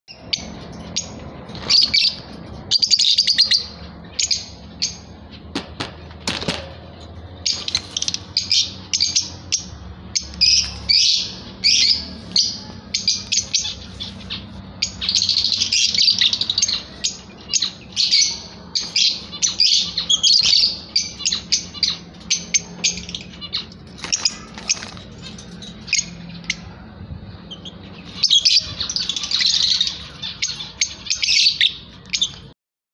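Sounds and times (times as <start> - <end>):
lovebirds chirping: 0.1 - 32.6.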